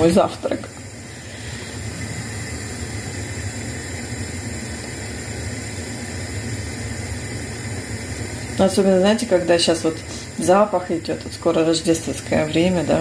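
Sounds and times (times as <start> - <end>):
pot of milk tea heating on stove: 0.0 - 13.0.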